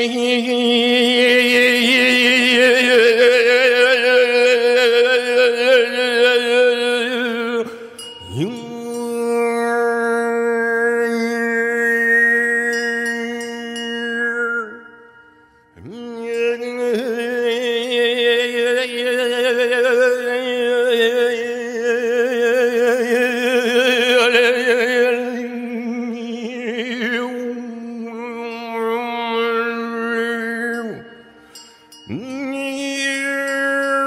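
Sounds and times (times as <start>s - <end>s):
person singing long note: 0.0s - 34.0s.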